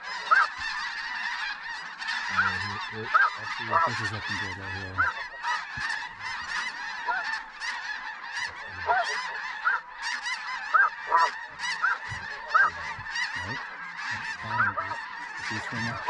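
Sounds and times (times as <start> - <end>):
geese honking chorus: 0.0 - 16.0
single goose calls: 0.0 - 16.0.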